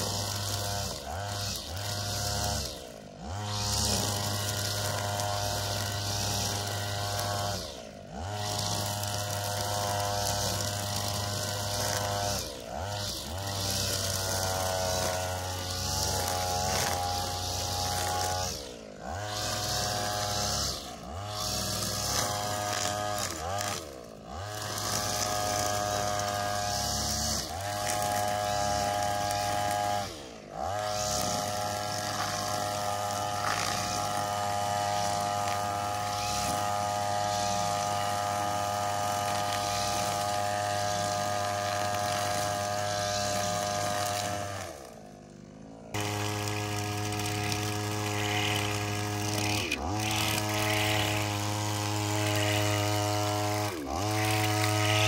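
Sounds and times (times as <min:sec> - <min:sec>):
two-stroke engine at high revs: 0:00.0 - 0:55.0.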